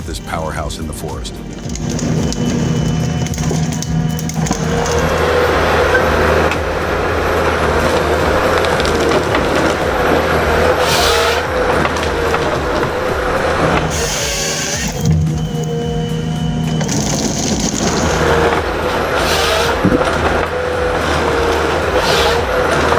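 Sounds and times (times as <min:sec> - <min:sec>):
diesel engine under load: 0:00.0 - 0:22.9
wood cracking and splintering: 0:01.0 - 0:15.8, 0:16.6 - 0:22.9.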